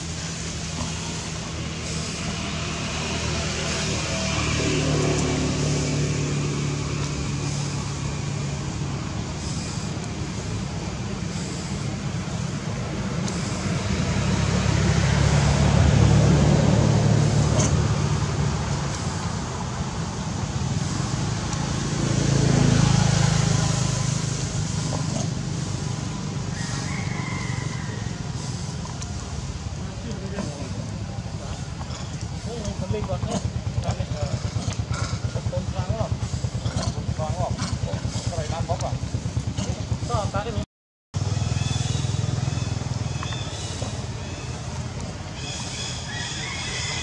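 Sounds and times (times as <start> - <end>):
traffic engine hum: 0.0 - 47.0
vehicles passing: 0.0 - 47.0.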